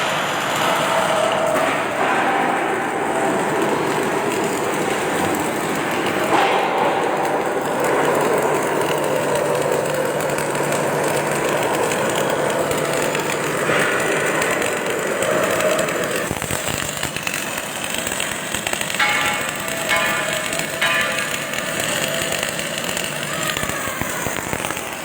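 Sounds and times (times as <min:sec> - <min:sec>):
welding machine hissing: 0:00.0 - 0:25.0.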